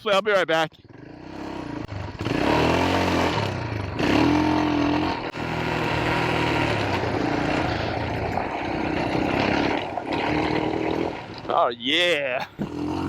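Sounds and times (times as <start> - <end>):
motorcycle engine pulling away: 0.8 - 11.7, 12.5 - 13.0.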